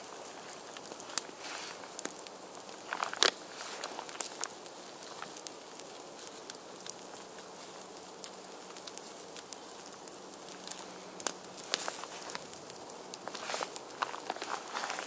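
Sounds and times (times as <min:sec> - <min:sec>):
campfire crackling: 0:00.0 - 0:15.0
outdoor hiss: 0:00.0 - 0:15.0.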